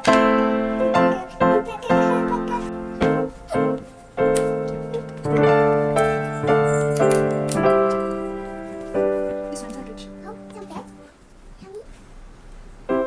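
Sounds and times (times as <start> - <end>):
piano chords ringing: 0.0 - 11.6, 12.2 - 13.0.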